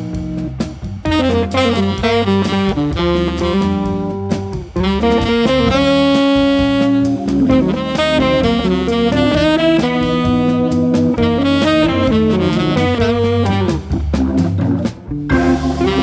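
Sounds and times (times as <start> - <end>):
jazz quartet playing: 0.0 - 16.0
tenor saxophone melody: 1.0 - 14.2, 15.3 - 16.0.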